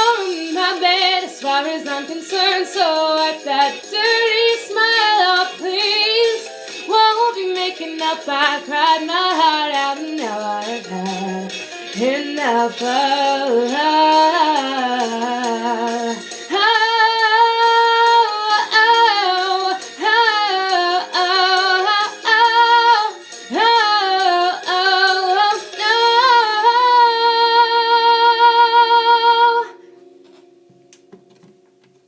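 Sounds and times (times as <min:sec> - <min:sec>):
woman singing with vibrato: 0:00.0 - 0:29.8.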